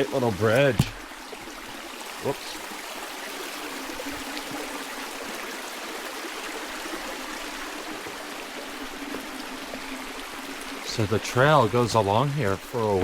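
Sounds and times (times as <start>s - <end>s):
creek flowing over rocks: 0.0s - 13.0s.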